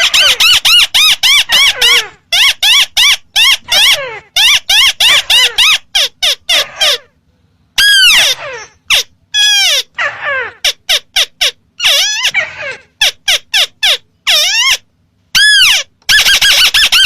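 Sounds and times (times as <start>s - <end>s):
harsh squawking bird calls: 0.0s - 7.2s, 7.8s - 17.0s.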